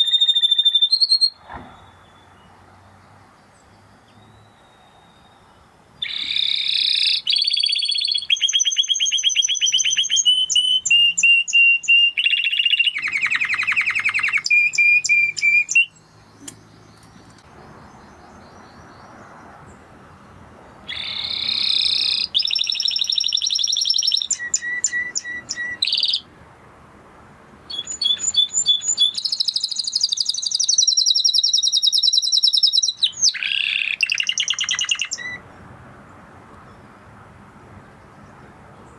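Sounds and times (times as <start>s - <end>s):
canary singing trills: 0.0s - 2.6s, 3.4s - 19.5s, 20.8s - 26.3s, 27.7s - 35.5s.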